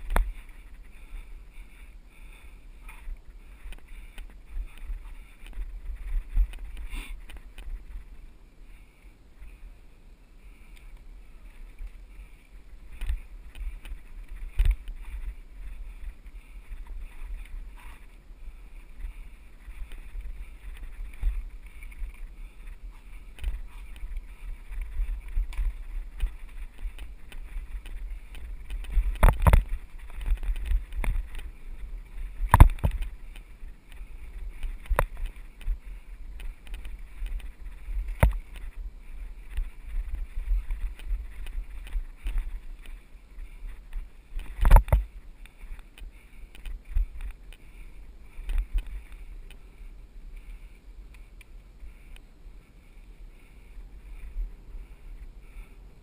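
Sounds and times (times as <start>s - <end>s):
bike knocking and rattling: 0.0s - 8.2s, 11.4s - 49.6s
wind rumble on microphone: 0.0s - 56.0s.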